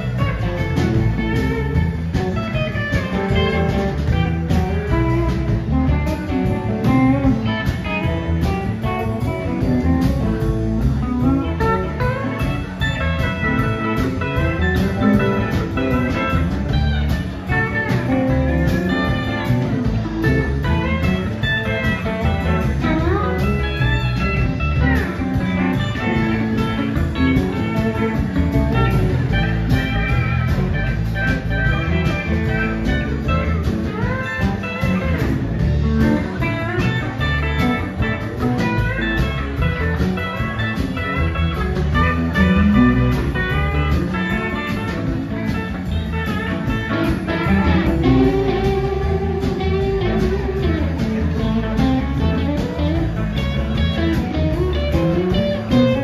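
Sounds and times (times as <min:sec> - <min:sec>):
blues-rock band playing: 0:00.0 - 0:56.0.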